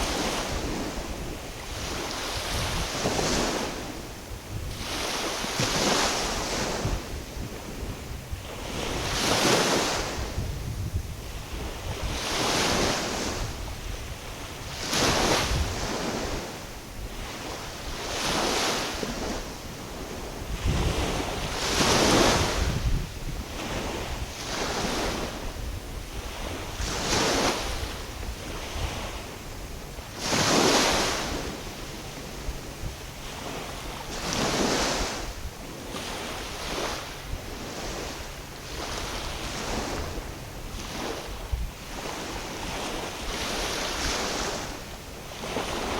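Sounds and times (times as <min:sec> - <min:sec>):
small waves breaking: 0:00.0 - 0:45.9
wind rumbling on microphone: 0:00.0 - 0:45.9.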